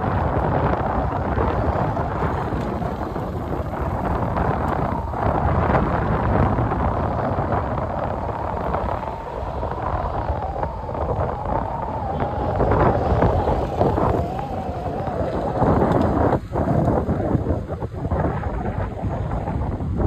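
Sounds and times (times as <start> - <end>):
faint wavering whine: 0.0 - 19.8
boat engine drone: 0.0 - 20.0
wind buffeting microphone: 0.0 - 20.0.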